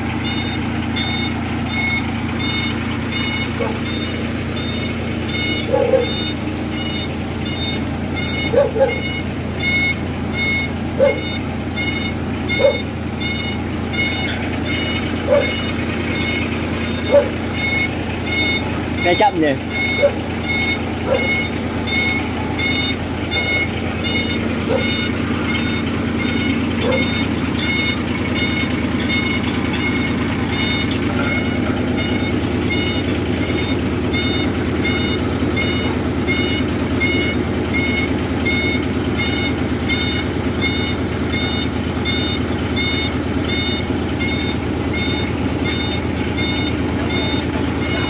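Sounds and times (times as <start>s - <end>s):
backup alarm beeping: 0.0s - 48.0s
heavy diesel machinery running: 0.0s - 48.0s.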